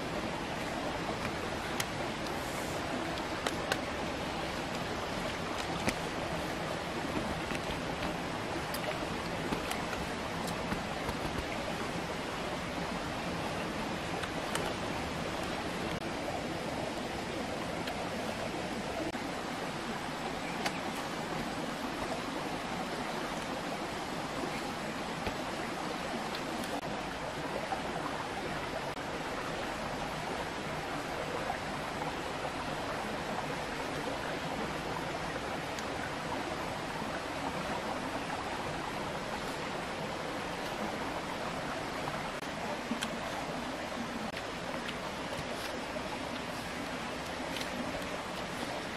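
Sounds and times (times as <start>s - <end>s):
stream water rushing: 0.0s - 48.9s.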